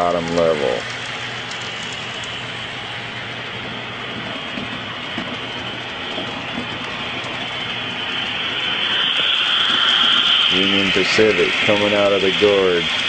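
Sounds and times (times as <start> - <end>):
low hum: 0.0 - 13.0
model trains rolling on track: 0.0 - 13.0.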